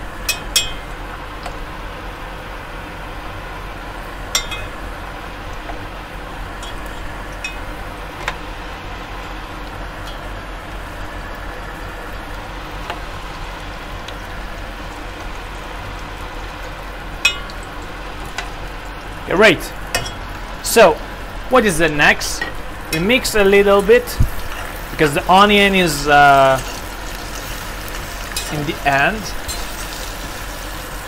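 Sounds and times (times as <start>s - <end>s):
hot oil sizzling: 0.0s - 31.0s.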